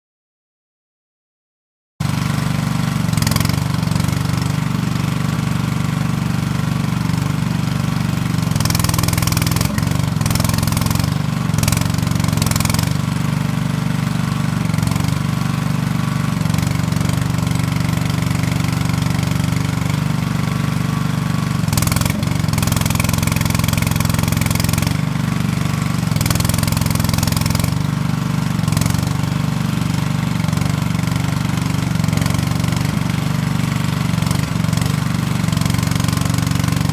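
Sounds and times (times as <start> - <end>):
loader engine running: 2.0 - 36.9.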